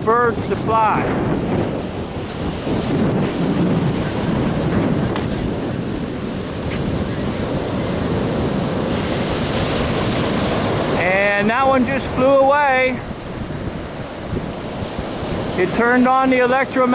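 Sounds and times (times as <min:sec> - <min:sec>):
surf washing on beach: 0:00.0 - 0:16.9
wind buffeting microphone: 0:00.0 - 0:16.9.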